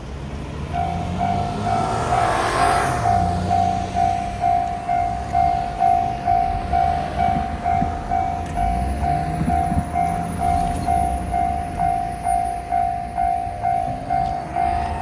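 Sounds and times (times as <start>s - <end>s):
low rumble of train: 0.0s - 15.0s
railroad crossing bell ringing: 0.7s - 15.0s.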